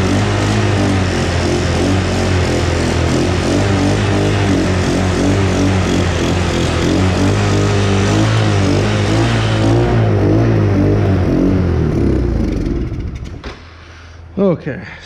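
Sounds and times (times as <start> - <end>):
small engine running: 0.0 - 13.4.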